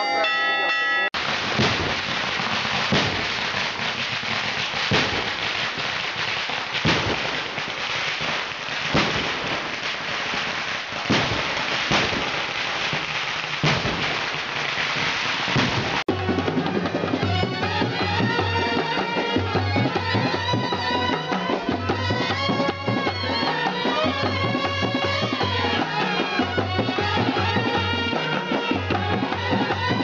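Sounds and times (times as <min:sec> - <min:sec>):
firecrackers crackling: 0:01.2 - 0:30.0
loud firecracker bangs: 0:01.2 - 0:30.0.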